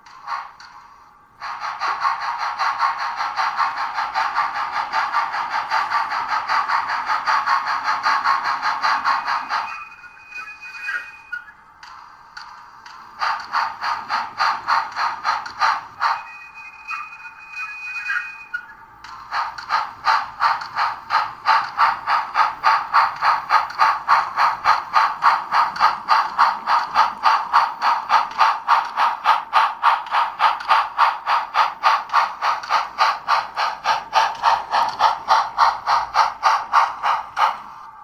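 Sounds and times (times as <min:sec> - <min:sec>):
model locomotive steam chuffs: 0:00.0 - 0:38.0.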